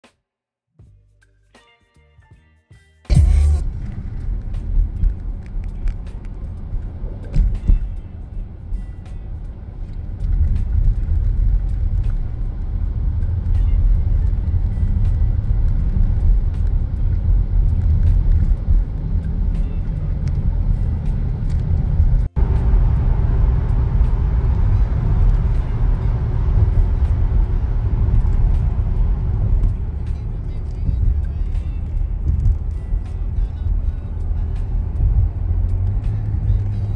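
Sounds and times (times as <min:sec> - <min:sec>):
car road and engine noise: 0:03.1 - 0:36.9.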